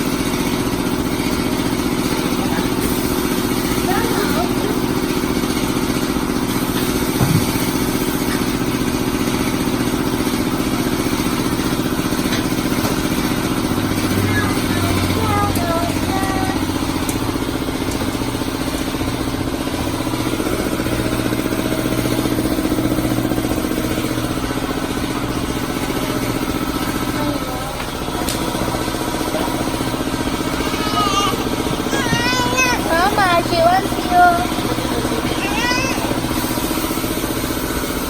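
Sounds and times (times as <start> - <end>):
vehicle engine idling: 0.0 - 38.0
voices: 0.4 - 8.6, 10.0 - 20.7, 23.8 - 37.0.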